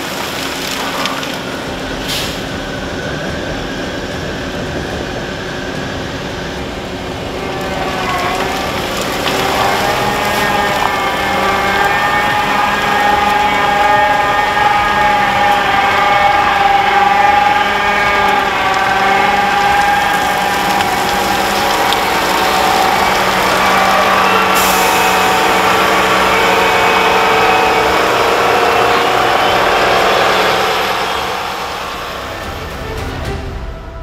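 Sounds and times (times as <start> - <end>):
diesel engines running: 0.0 - 34.0
mechanical whine: 0.0 - 34.0.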